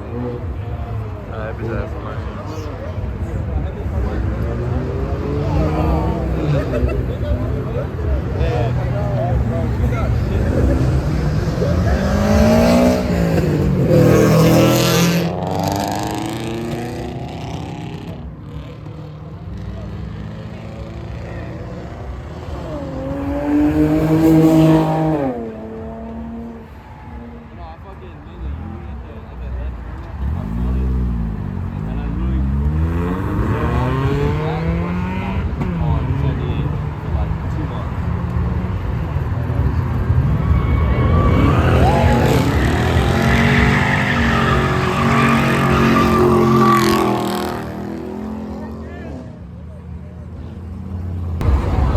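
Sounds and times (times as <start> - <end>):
car engine revving: 0.0 - 26.7, 28.3 - 51.9
tires squealing: 1.6 - 18.6, 20.0 - 49.2.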